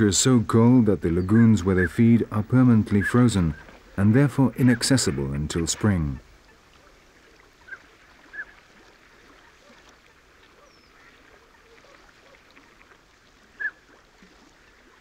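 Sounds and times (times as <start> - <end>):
waterfowl calling: 1.1 - 15.0.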